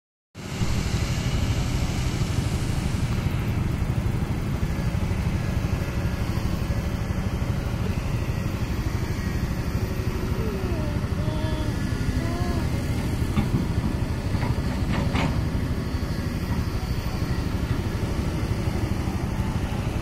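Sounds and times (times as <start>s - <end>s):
excavator diesel engine rumbling: 0.5s - 20.0s.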